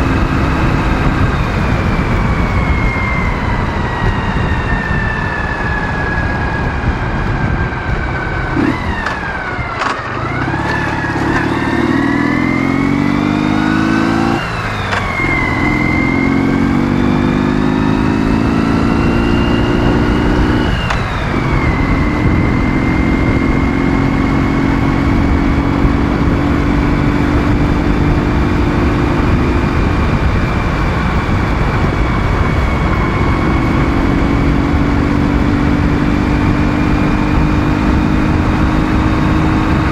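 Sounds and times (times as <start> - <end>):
high whine: 0.0 - 39.9
motorcycle engine accelerating: 0.0 - 39.9.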